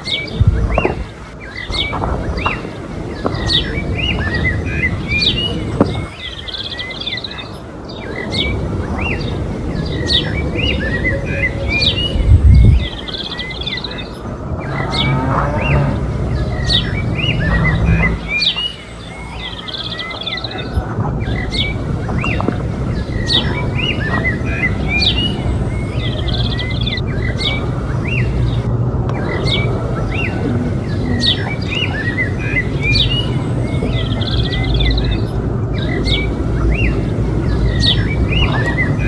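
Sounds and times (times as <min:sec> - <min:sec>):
birds chirping: 0:00.0 - 0:39.0
steady low rumble: 0:07.6 - 0:39.0.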